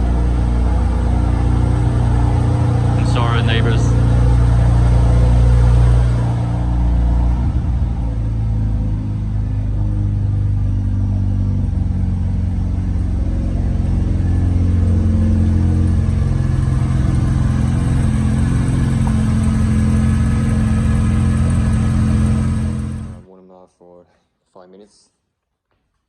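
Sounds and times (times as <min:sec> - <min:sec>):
rotary engine idling: 0:00.0 - 0:23.2.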